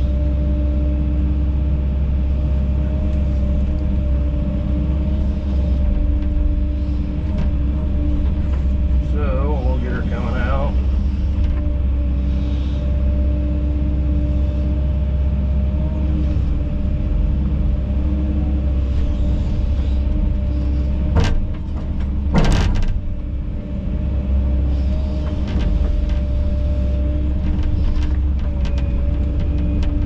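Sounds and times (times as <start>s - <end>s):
excavator diesel engine running: 0.0s - 30.0s
hydraulic pump whine: 0.0s - 30.0s.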